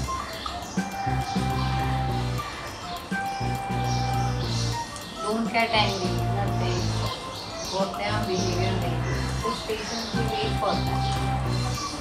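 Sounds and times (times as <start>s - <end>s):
background music with bass and beat: 0.0s - 9.5s, 10.1s - 12.0s.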